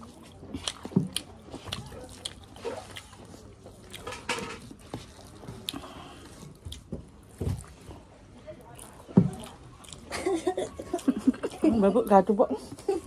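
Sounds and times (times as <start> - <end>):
chewing and lip smacks: 0.0 - 7.7, 8.6 - 11.6
fingers mixing wet food: 0.0 - 12.7.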